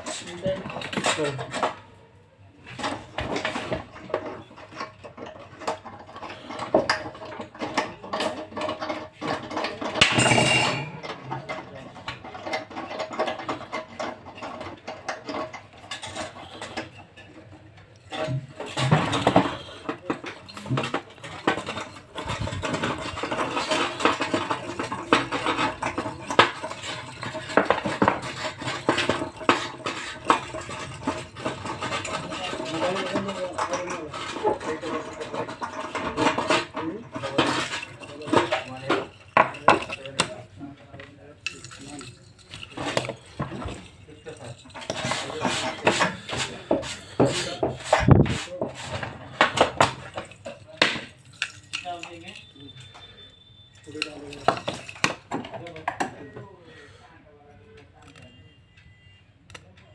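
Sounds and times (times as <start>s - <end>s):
small parts and tools clattering: 0.0s - 59.9s.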